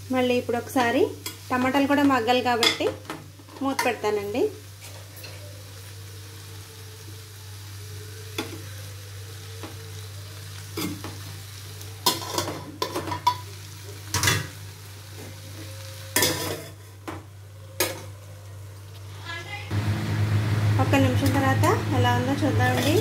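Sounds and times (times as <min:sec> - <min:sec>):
curry sizzling: 0:00.0 - 0:23.0.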